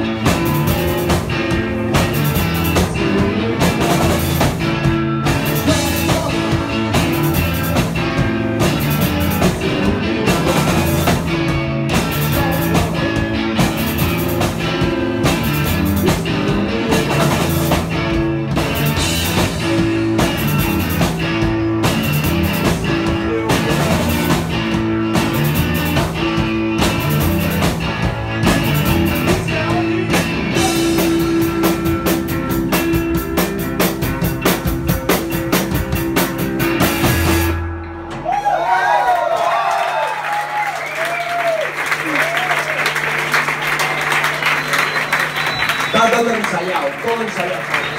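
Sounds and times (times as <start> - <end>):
drum kit beat: 0.0 - 38.9
electric guitars: 0.0 - 47.9.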